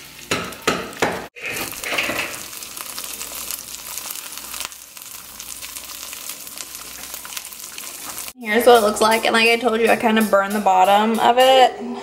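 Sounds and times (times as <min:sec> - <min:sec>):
crackling sizzle in a pan: 0:00.0 - 0:11.0.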